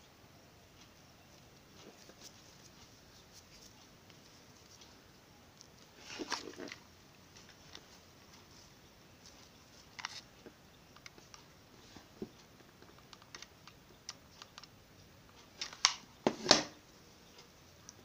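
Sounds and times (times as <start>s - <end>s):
clicks and rustles of handling: 0.8s - 18.0s.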